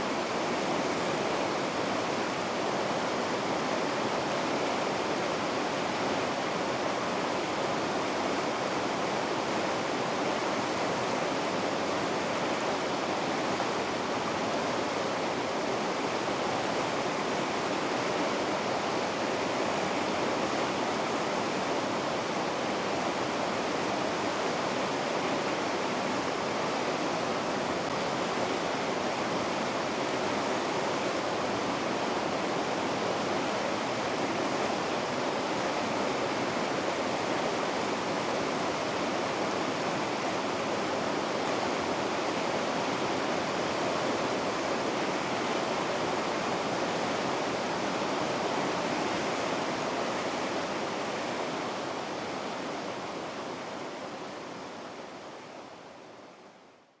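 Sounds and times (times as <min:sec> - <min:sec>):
river rapids rushing: 0:00.0 - 0:56.6.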